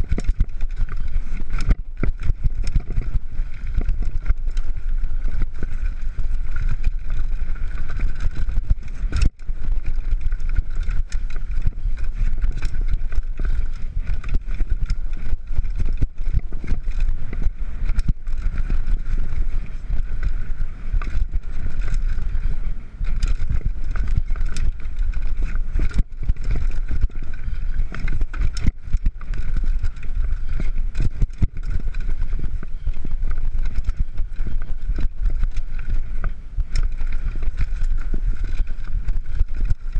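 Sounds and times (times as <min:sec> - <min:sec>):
bike knocking and rattling: 0:00.0 - 0:39.9
tyres running over dirt and stones: 0:00.0 - 0:39.9
wind buffeting microphone: 0:00.0 - 0:39.9.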